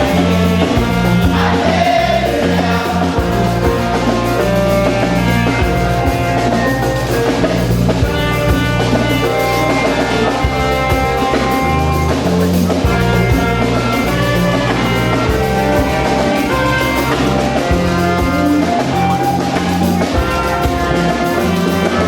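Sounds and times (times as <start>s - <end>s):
bass line: 0.0s - 22.0s
drums: 0.0s - 22.0s
instrumental band music: 0.0s - 22.0s.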